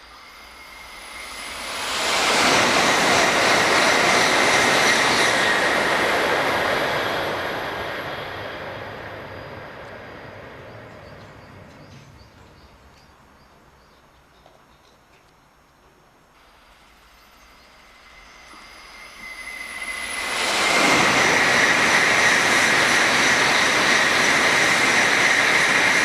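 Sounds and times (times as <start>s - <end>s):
thin high whine: 0.0s - 11.8s, 16.4s - 26.0s
train passing at speed: 0.0s - 14.4s, 16.2s - 26.0s
rush of wind and rail noise: 0.0s - 26.0s.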